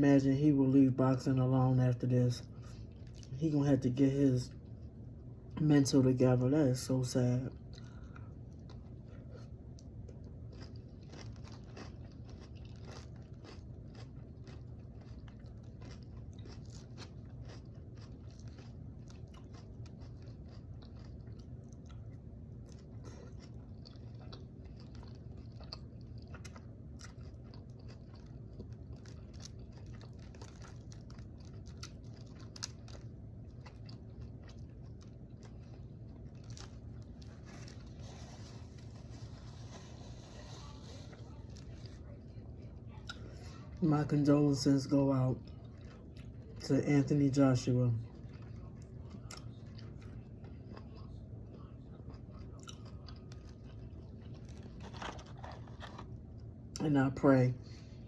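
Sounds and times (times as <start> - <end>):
person chewing and crunching food: 0.0 - 58.0
steady low hum: 0.0 - 58.0.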